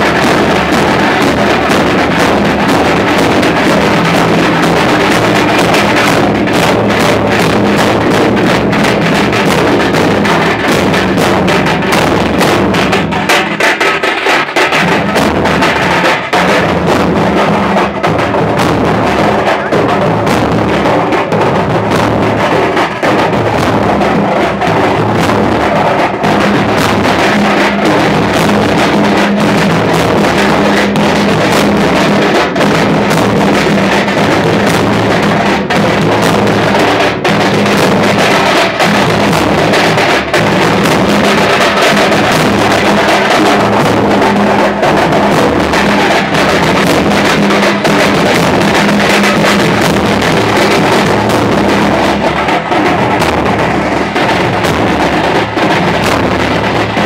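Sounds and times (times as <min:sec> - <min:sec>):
drummers beating metal drums: 0:00.0 - 0:57.0.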